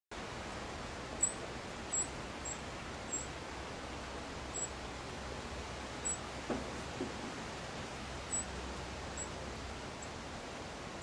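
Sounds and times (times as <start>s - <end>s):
steady background hiss: 0.1s - 11.0s.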